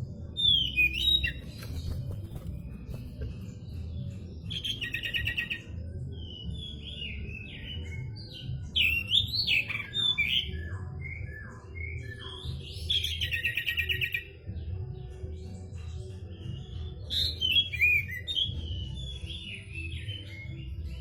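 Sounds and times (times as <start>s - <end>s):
bird singing buzzy trills and whistles: 0.0s - 21.0s.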